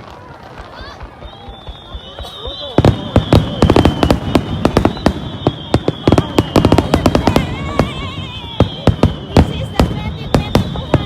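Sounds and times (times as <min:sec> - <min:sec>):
fireworks exploding: 0:00.0 - 0:11.0
high whistling tone: 0:01.1 - 0:11.0.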